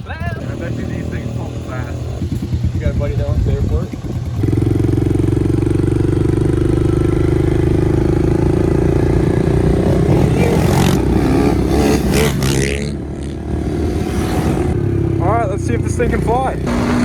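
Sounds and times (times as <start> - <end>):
motorbike engine fast idle: 0.0 - 12.7, 14.9 - 17.0
engine clatter: 0.0 - 17.0.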